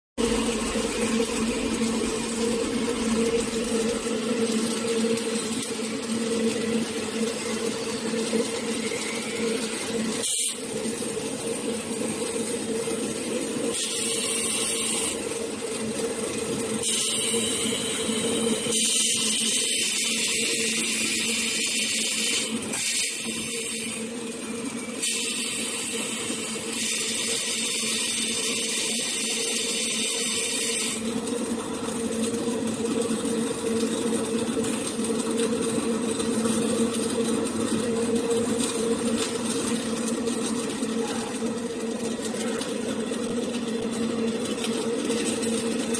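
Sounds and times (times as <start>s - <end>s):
welding machine humming: 0.2s - 45.9s.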